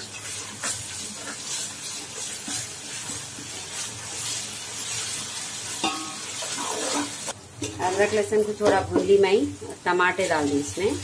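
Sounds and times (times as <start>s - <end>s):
paste sizzling in oil: 0.0s - 11.0s
spoon stirring and scraping pot: 0.0s - 11.0s.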